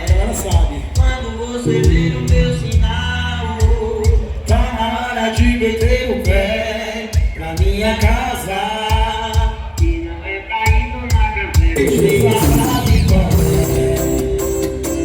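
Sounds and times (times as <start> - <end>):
man singing: 0.0 - 15.0
steady drum beat: 0.0 - 15.0.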